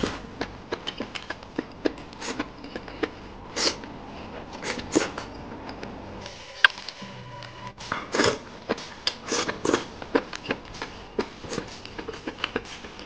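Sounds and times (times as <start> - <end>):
man chewing crunchy food: 0.0 - 5.7, 8.2 - 13.0.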